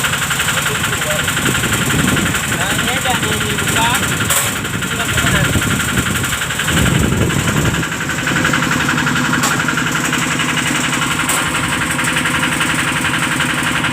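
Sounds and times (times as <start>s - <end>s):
diesel engine idling: 0.0s - 13.9s.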